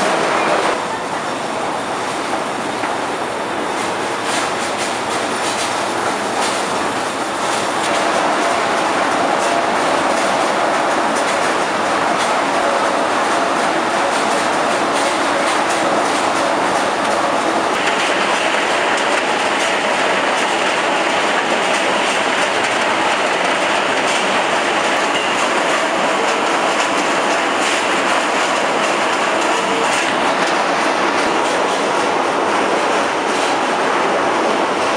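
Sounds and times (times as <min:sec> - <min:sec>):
conveyor machinery clattering: 0:00.0 - 0:34.9.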